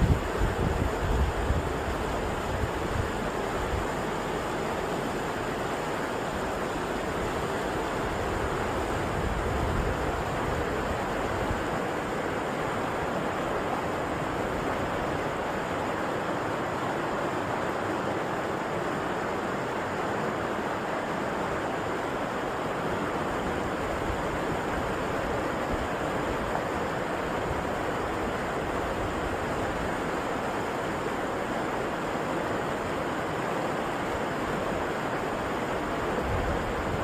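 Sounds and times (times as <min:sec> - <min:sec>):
river rushing over rocks: 0:00.0 - 0:37.0.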